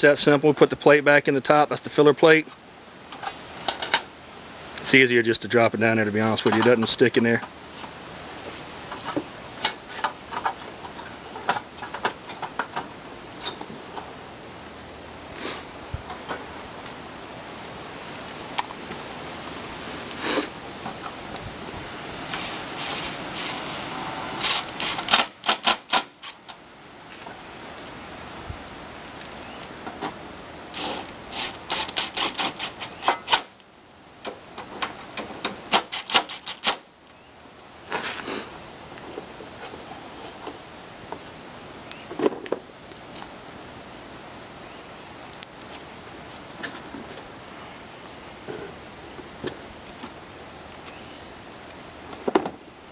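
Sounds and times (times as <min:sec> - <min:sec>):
steady background hiss: 0:00.0 - 0:52.9.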